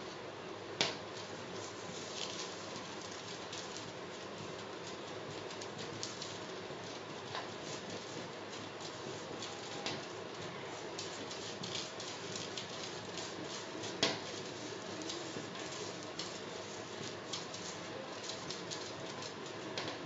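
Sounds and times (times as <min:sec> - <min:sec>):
steady hiss: 0:00.8 - 0:20.0.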